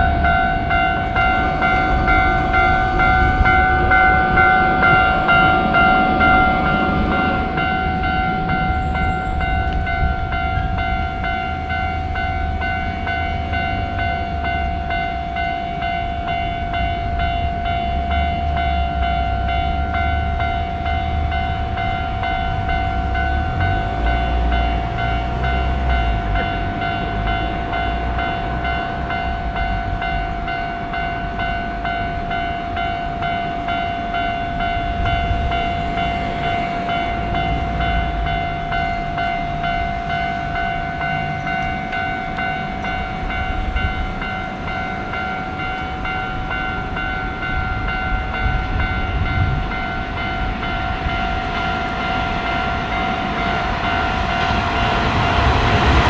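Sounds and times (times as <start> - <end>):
level crossing warning bell: 0.0 - 56.0
train rumbling: 0.0 - 56.0.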